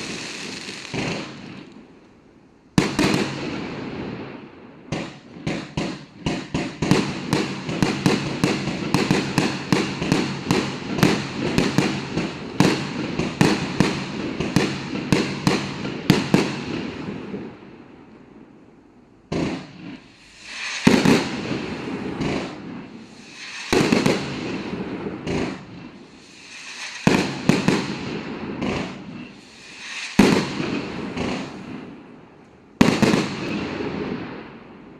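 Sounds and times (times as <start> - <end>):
fireworks bangs: 0.0 - 2.0, 2.7 - 18.0, 19.3 - 34.9
loud firework bursts: 0.0 - 2.0, 2.7 - 18.0, 19.3 - 34.9.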